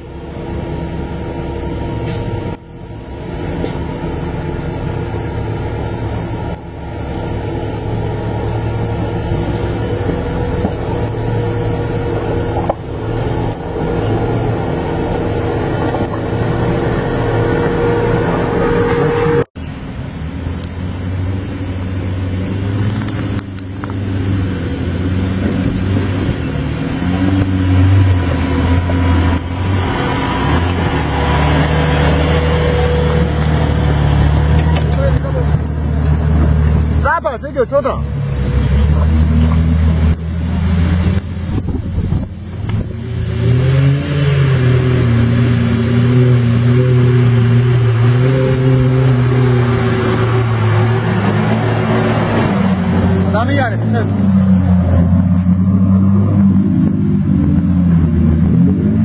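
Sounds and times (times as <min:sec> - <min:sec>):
engine crawling in low gear: 0:00.0 - 0:59.0.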